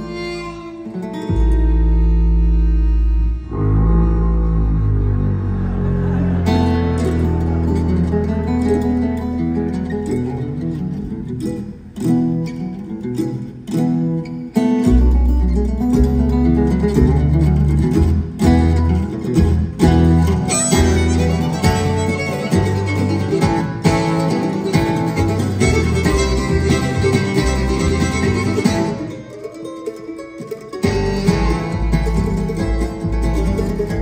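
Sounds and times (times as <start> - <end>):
acoustic string band playing: 0.0 - 34.0.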